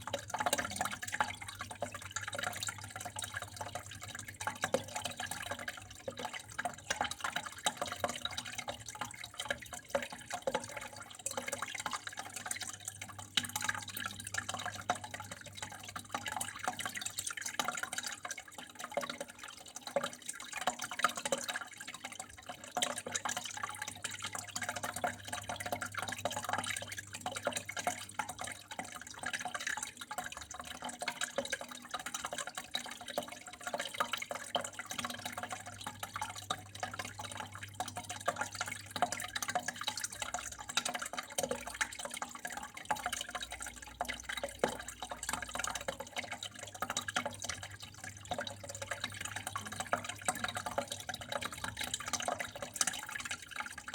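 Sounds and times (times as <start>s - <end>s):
water trickling and dripping: 0.0s - 53.9s.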